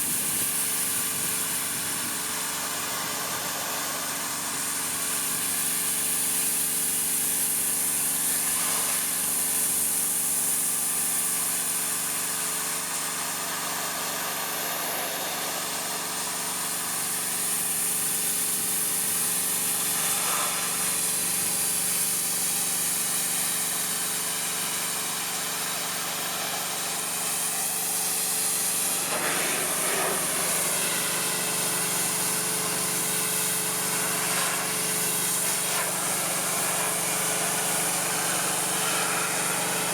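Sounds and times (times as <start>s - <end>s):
high-pressure water spray hissing: 0.0s - 39.9s
pressure washer engine running: 0.0s - 39.9s.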